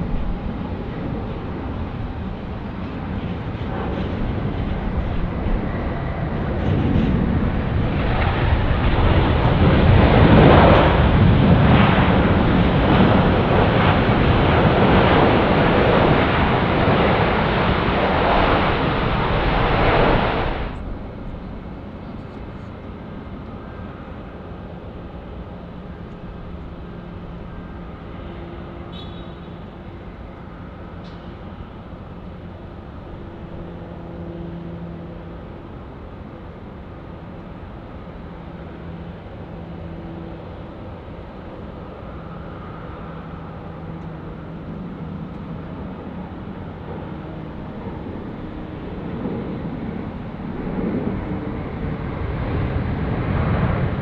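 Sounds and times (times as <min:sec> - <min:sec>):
jet airliner hum: 0:00.0 - 0:54.0
jet engine reverse thrust roar: 0:00.0 - 0:54.0.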